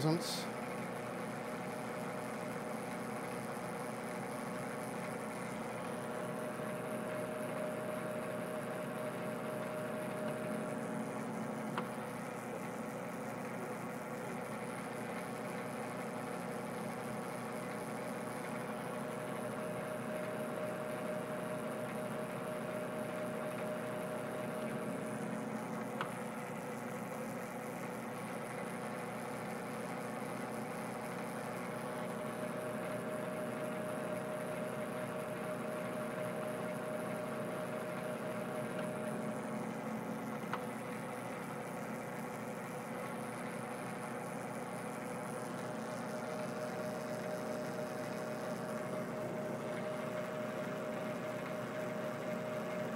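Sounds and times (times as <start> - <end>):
metal lathe humming: 0.0 - 52.9.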